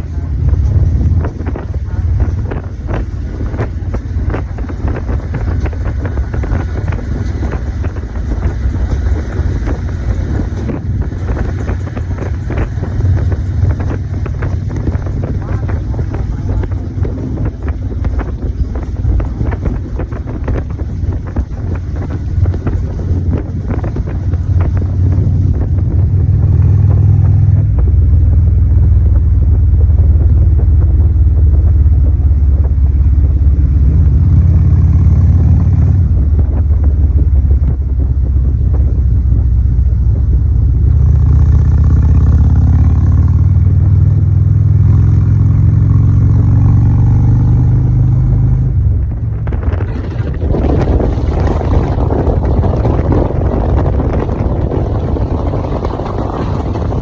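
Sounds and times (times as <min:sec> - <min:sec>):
motor vehicle engine running: 0:00.0 - 0:57.0.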